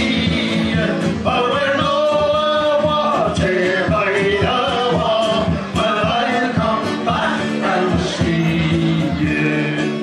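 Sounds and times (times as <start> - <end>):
acoustic guitar: 0.0 - 10.0
men singing: 0.0 - 10.0.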